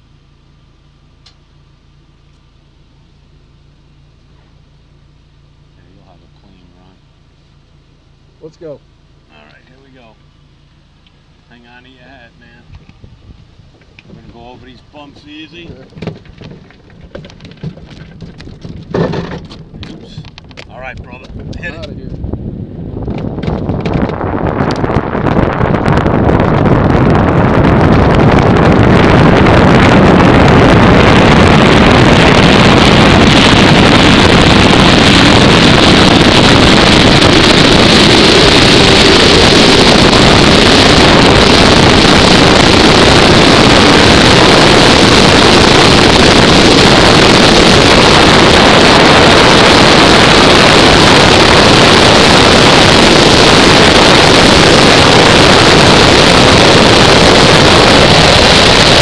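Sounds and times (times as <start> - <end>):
wind rushing over microphone: 11.5 - 59.0.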